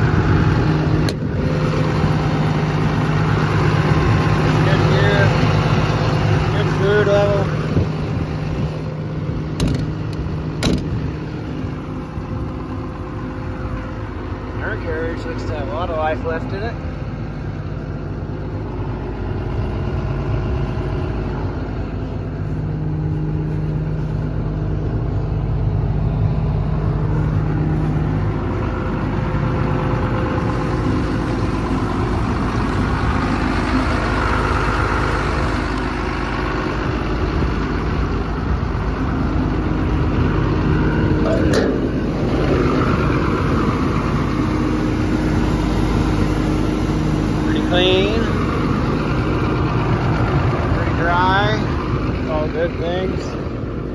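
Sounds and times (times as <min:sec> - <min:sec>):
excavator diesel engine idling: 0:00.0 - 0:53.9.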